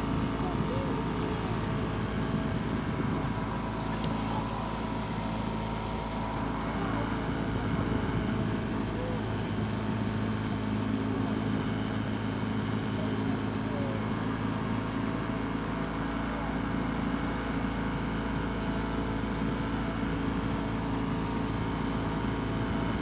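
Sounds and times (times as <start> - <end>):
motorboat engine humming: 0.0 - 23.0.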